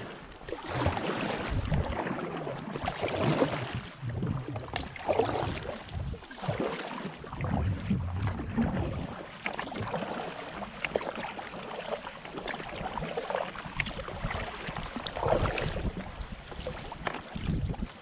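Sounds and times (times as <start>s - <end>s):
low swishes of water: 0.0s - 18.0s
paddle strokes in water: 0.0s - 18.0s.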